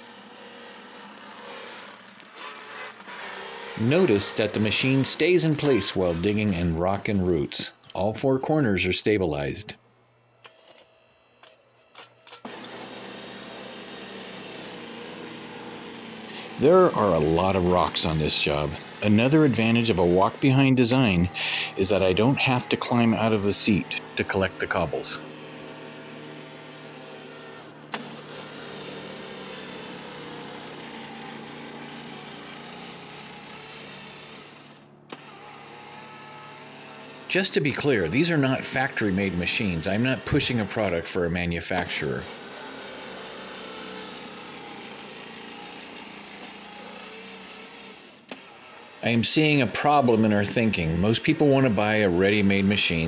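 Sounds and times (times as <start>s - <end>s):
electric motor hum: 0.0s - 53.0s.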